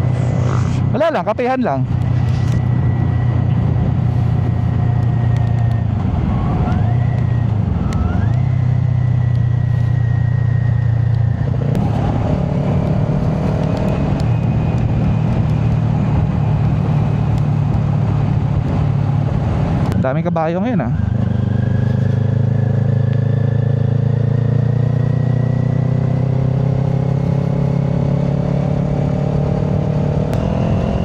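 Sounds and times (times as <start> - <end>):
motorcycle engine running: 0.0 - 20.0, 21.0 - 31.0
wind noise: 0.0 - 31.0.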